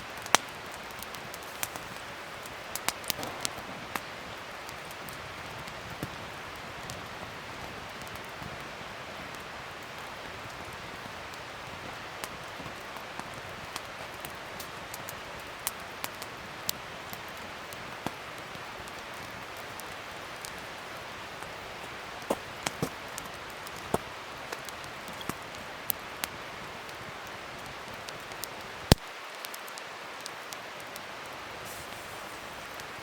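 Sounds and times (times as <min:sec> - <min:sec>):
fire hissing: 0:00.0 - 0:29.0, 0:30.8 - 0:33.0
wood fire crackling and popping: 0:00.0 - 0:33.0.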